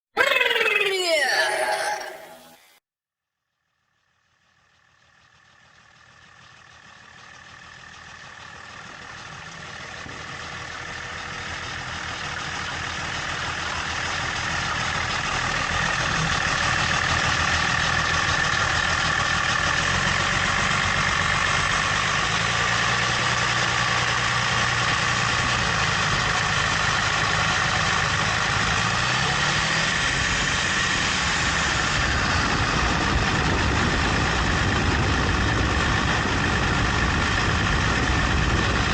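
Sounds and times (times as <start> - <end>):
car engine running: 4.1 - 38.9.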